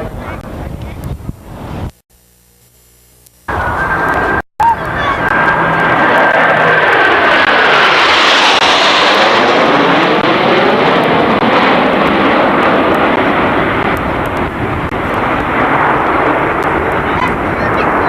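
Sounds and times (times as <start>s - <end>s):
jet aircraft passing: 3.5s - 18.0s.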